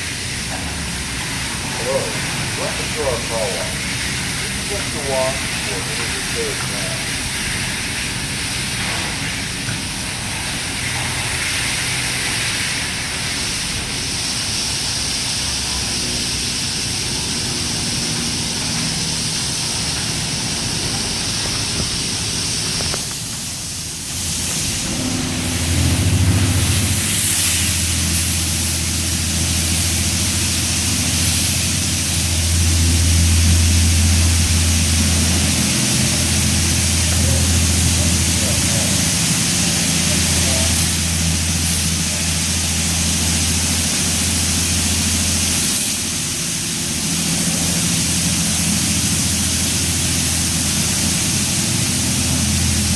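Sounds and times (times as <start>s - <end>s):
hiss of water spray: 0.0s - 52.9s
low machine hum: 0.0s - 52.9s.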